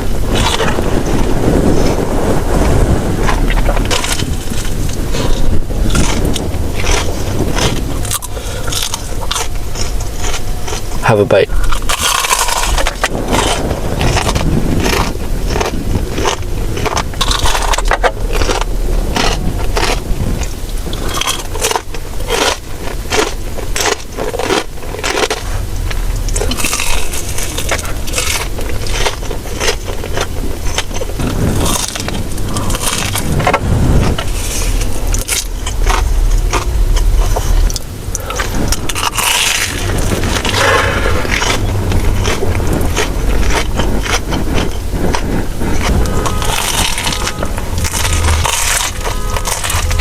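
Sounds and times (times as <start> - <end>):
crunchy food chewing: 0.0 - 50.0.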